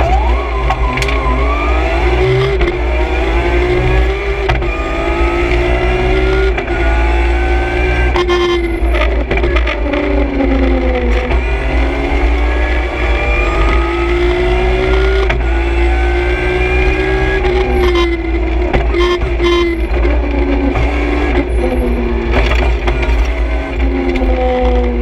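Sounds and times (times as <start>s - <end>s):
car engine accelerating through gears: 0.0s - 25.0s
low road rumble: 0.0s - 25.0s.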